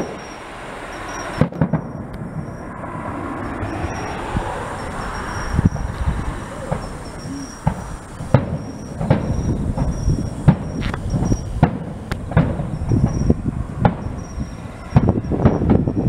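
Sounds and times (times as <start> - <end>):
firework shells bursting: 0.0 - 2.6, 4.8 - 16.0
low rumbling booms: 1.4 - 16.0.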